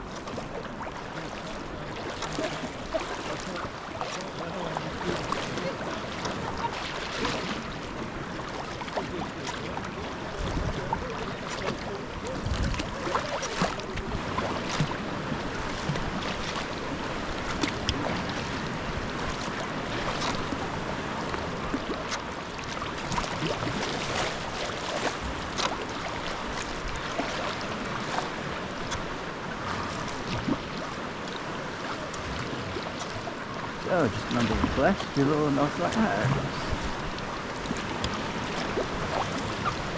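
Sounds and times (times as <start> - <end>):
paddle splashing water: 0.0 - 39.9
sea wash: 0.0 - 39.9.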